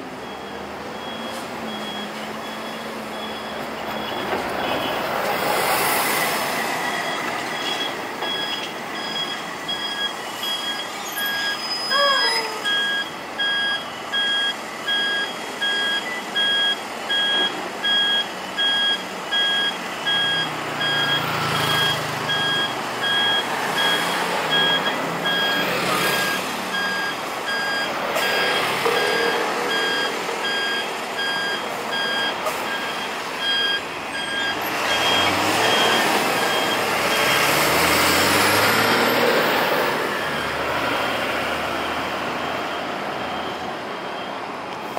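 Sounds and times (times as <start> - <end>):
passing vehicles: 0.0 - 44.9
traffic noise: 0.0 - 44.9
bus electronic warning beep: 0.1 - 5.0, 6.1 - 44.9.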